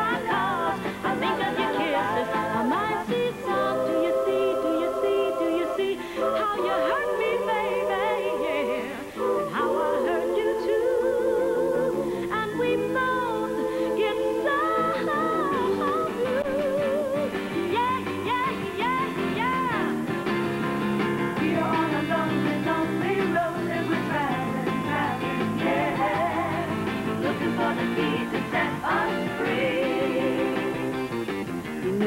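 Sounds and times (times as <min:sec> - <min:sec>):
women singing pop-soul: 0:00.0 - 0:20.2, 0:21.2 - 0:31.0.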